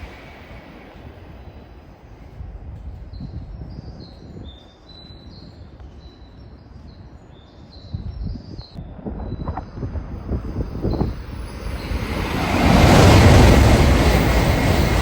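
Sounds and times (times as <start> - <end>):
low rumble of train: 0.0 - 6.8, 8.7 - 15.0
wind noise: 0.0 - 15.0.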